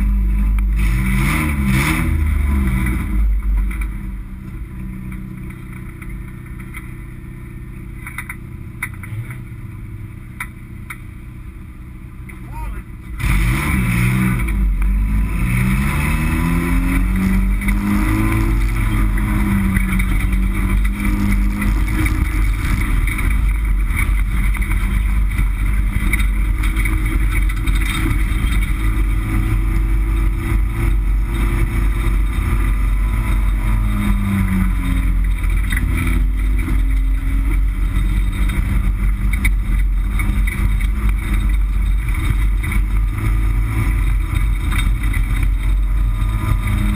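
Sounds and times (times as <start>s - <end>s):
race car engine revving: 0.0s - 9.8s, 12.2s - 46.9s.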